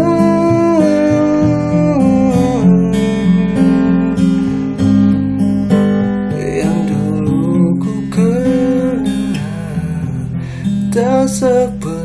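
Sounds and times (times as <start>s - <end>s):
strummed acoustic guitar: 0.0s - 12.0s
sustained melody line: 0.0s - 12.0s.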